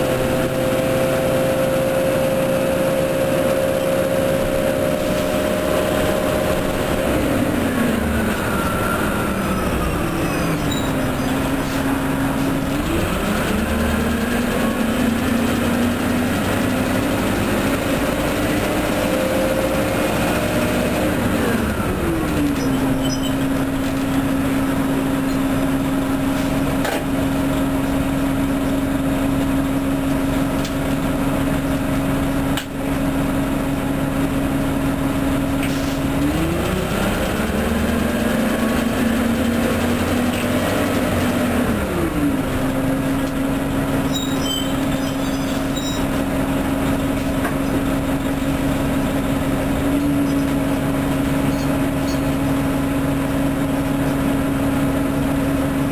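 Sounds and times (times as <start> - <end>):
bus engine droning: 0.0 - 55.9.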